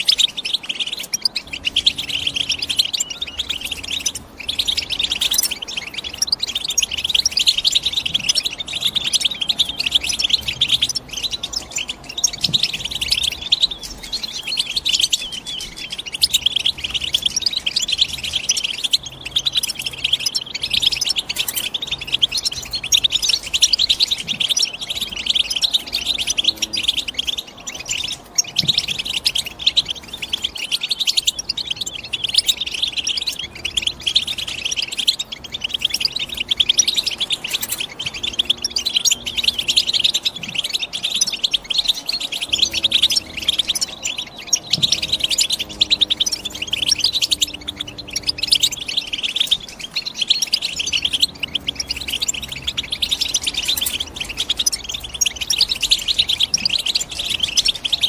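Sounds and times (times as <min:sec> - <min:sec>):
bird twittering song: 0:00.0 - 0:58.0.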